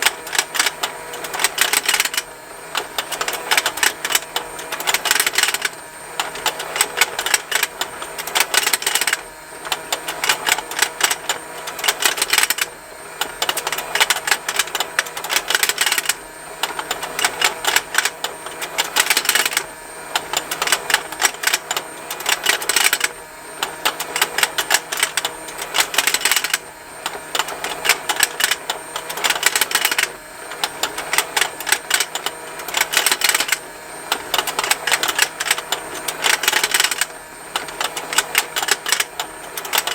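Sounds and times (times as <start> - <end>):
faint motor hum: 0.0 - 39.9
toy motor and gears ticking: 0.0 - 39.9.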